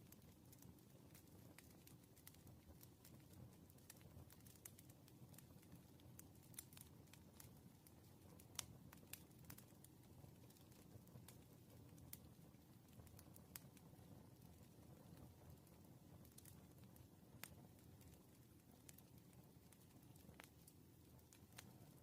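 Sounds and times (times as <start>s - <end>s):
low rumble of burning logs: 0.0s - 22.0s
wood fire crackling and popping: 0.0s - 22.0s.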